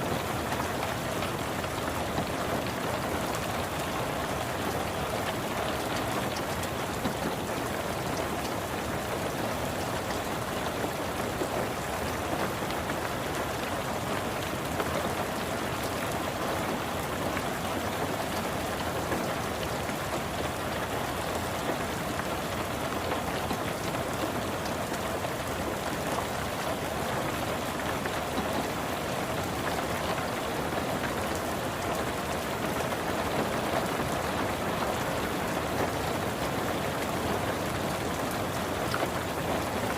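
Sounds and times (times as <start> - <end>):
rain pattering on a car roof: 0.0 - 39.9.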